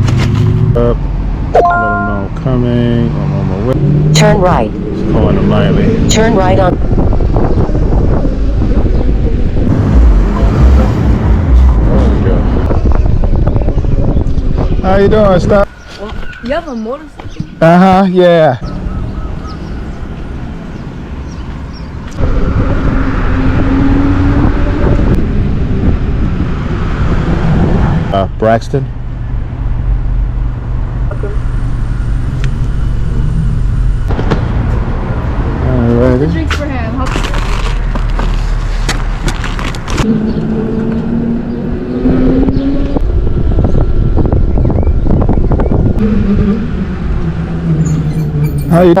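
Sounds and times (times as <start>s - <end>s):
wind rush and road noise: 2.2s - 18.4s, 19.0s - 49.0s.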